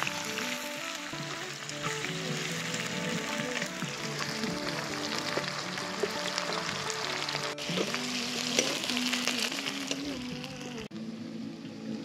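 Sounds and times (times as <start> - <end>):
onions sizzling in hot oil: 0.0 - 10.9
background song: 0.0 - 12.0.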